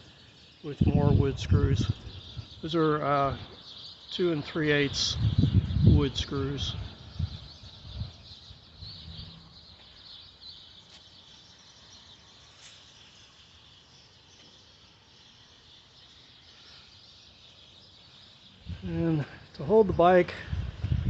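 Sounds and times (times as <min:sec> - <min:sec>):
insects and birds chirping: 0:00.0 - 0:21.0.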